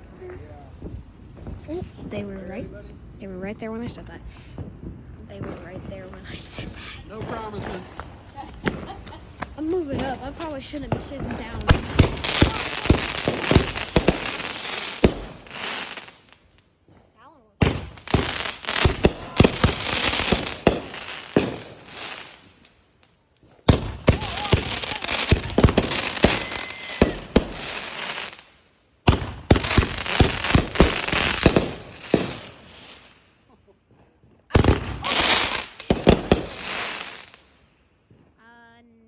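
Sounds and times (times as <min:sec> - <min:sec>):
firework crackling pops: 0:03.8 - 0:33.3, 0:34.5 - 0:37.6.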